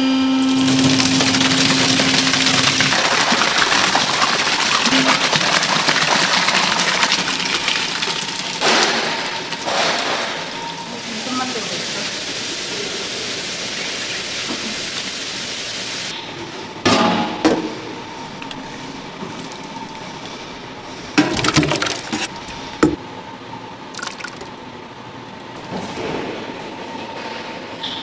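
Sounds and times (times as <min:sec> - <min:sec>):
machine hum: 0:00.0 - 0:27.8.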